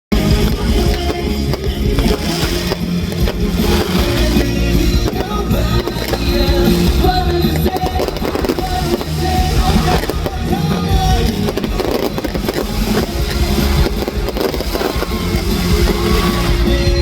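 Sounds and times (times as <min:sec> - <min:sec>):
loud live music over sound system: 0:00.1 - 0:17.0.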